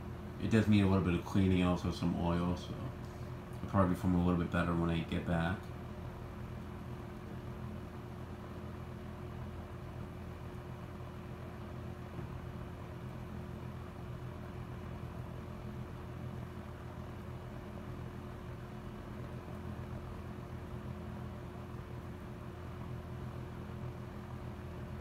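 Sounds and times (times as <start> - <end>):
box fan running: 0.0 - 25.0.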